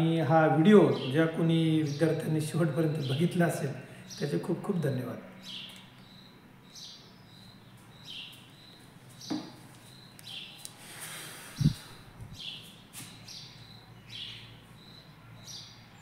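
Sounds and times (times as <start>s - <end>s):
bird chirping: 0.0s - 4.4s, 5.3s - 16.0s.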